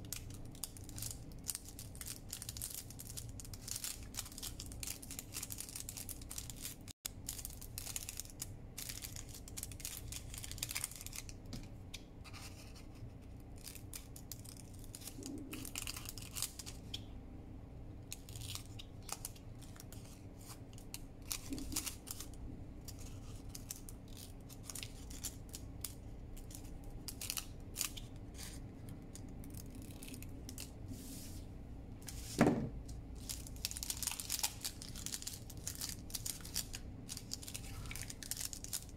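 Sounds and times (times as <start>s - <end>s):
paper crinkling: 0.1s - 11.4s, 18.1s - 38.9s.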